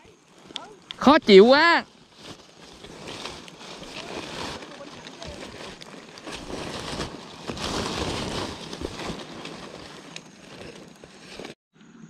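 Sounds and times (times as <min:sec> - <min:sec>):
crackly rustling of plastic sack: 0:00.0 - 0:11.6.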